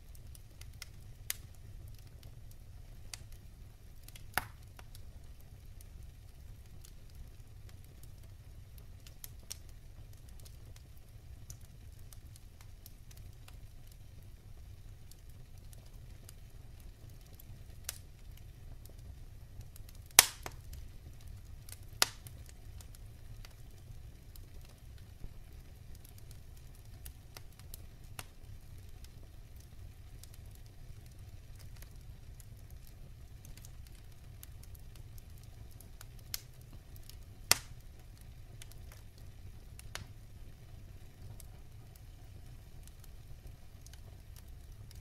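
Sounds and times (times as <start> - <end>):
burning logs popping: 0.0 - 45.0
fire flames rumbling: 0.0 - 45.0
soft crackling of fire: 0.0 - 45.0.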